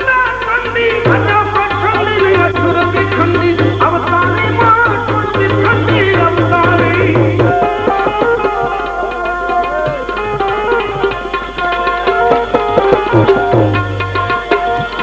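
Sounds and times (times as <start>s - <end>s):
tabla drum strokes: 0.0s - 15.0s.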